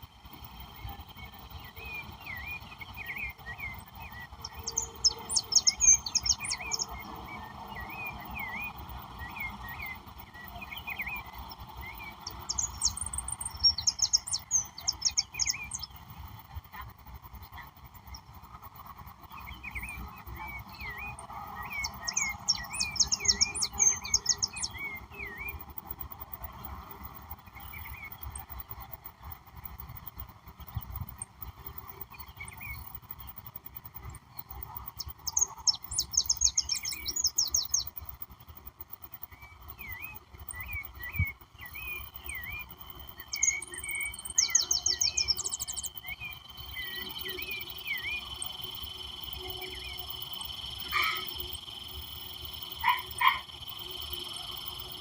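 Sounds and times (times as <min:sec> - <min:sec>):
birds chirping: 0:00.0 - 0:55.0
fast high-pitched bird song: 0:00.0 - 0:55.0
steady background hum: 0:00.0 - 0:55.0.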